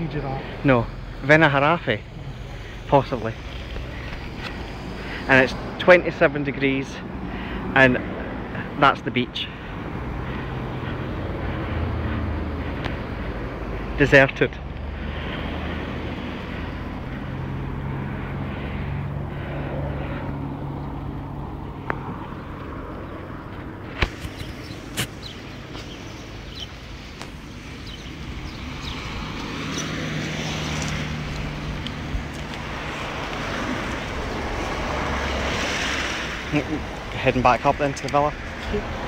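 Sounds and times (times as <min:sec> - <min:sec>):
car engine hum passing: 0:00.0 - 0:39.0
steady background noise: 0:00.0 - 0:39.0.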